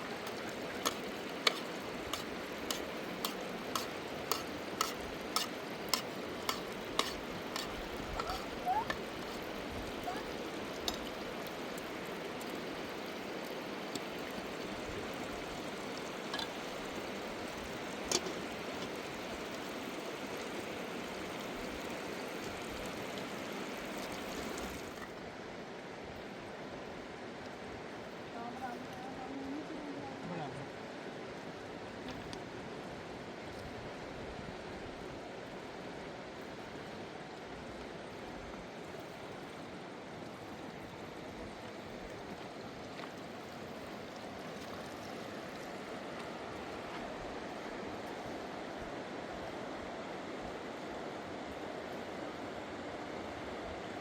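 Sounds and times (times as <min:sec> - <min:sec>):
fast river rushing: 0:00.0 - 0:54.0.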